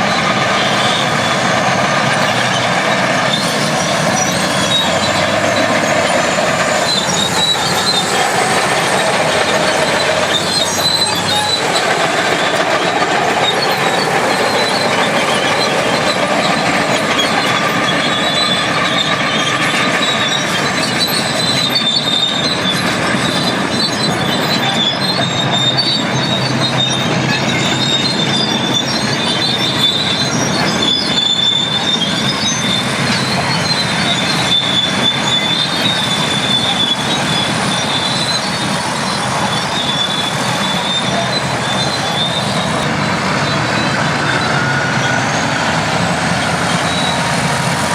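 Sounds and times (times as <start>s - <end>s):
diesel engine running: 0.0s - 47.9s
steel tracks squealing: 0.0s - 47.9s.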